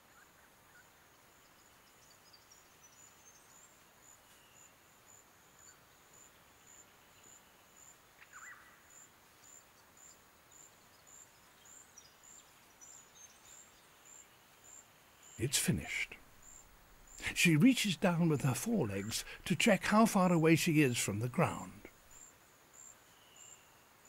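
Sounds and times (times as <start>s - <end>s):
quiet forest ambience: 0.0s - 24.0s
insect chirping: 0.7s - 19.8s, 20.6s - 24.0s.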